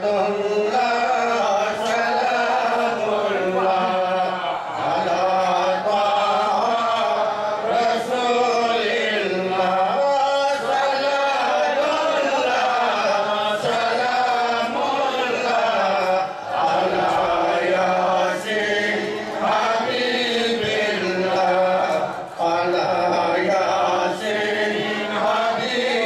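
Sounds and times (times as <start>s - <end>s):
man chanting into a microphone: 0.0s - 26.0s.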